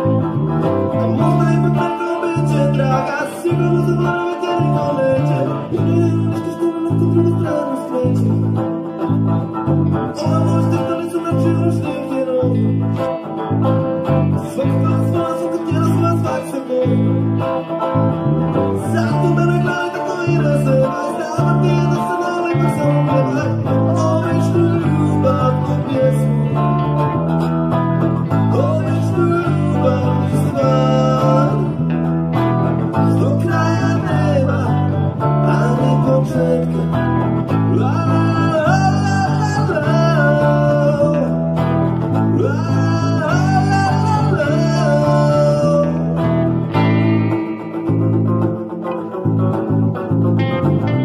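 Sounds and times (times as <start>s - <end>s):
male lead vocal: 0.0s - 49.5s
electric bass guitar: 0.0s - 51.0s
electric guitars: 0.0s - 51.0s.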